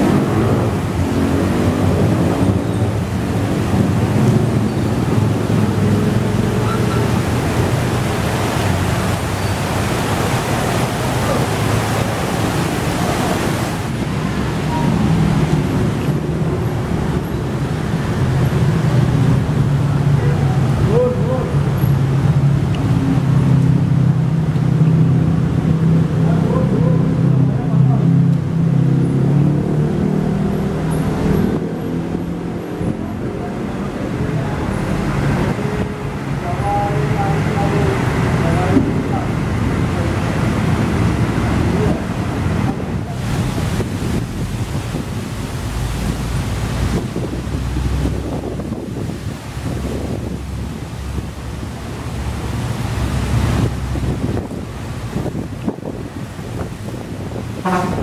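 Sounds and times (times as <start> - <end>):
heavy rain: 0.0 - 58.0
traffic on wet road: 0.0 - 58.0
vehicle engine hum passing: 0.0 - 58.0
wind: 0.0 - 58.0.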